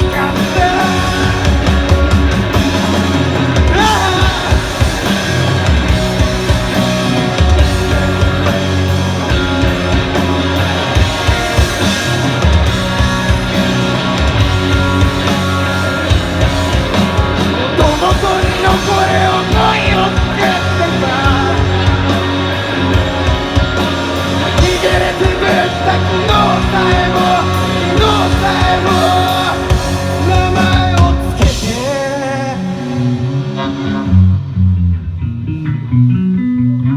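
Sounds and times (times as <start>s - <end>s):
rock band playing: 0.0s - 36.9s.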